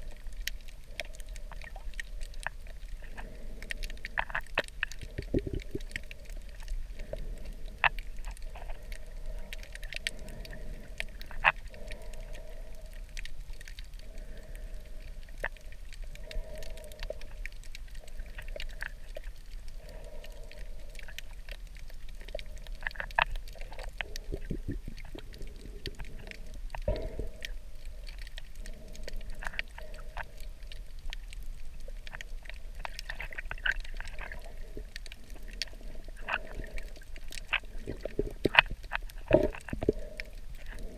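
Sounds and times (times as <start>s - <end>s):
sharp clicks and crackles: 0.0s - 40.9s
underwater low rumble: 0.0s - 40.9s.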